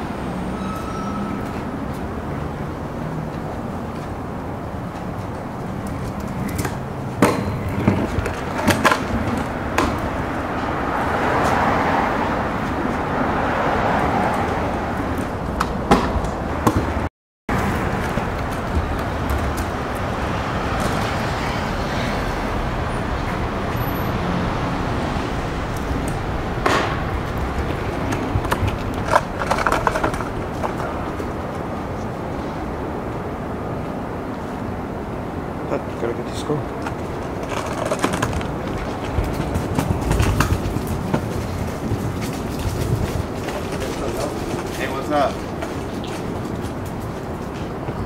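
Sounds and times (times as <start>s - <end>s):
scooter wheels rolling on concrete: 0.0s - 48.0s.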